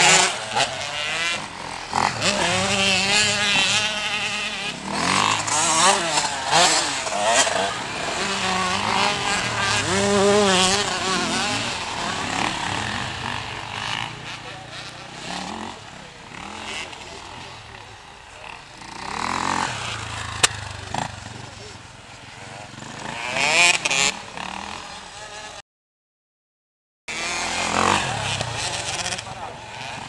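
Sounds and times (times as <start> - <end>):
dirt bike engines revving: 0.0 - 25.6, 27.1 - 30.0.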